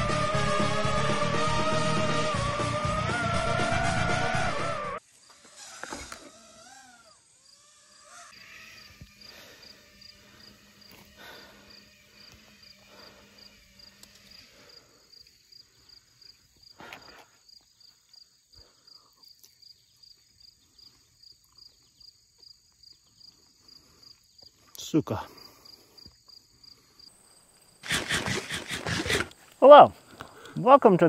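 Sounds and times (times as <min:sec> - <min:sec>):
insect chirping: 0:05.0 - 0:30.8.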